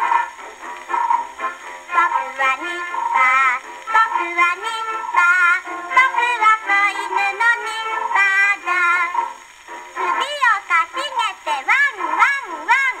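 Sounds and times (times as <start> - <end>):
gramophone record playing: 0.0 - 13.0
instrumental accompaniment: 0.0 - 13.0.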